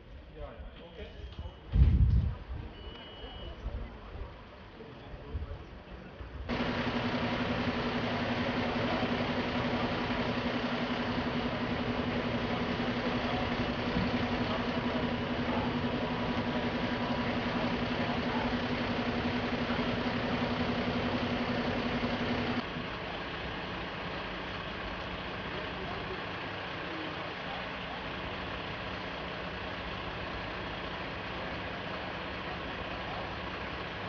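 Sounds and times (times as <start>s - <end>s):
fire engine running: 3.4s - 34.0s.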